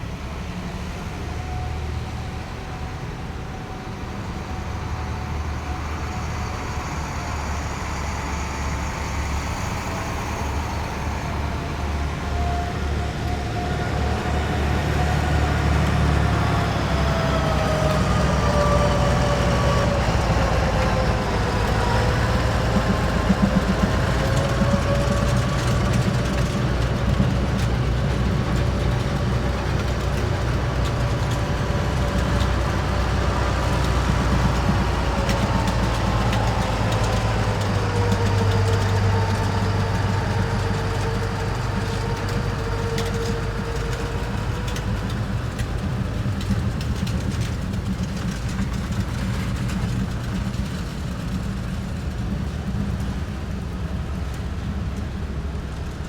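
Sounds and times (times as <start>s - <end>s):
heavy vehicles driving past: 0.0s - 56.0s.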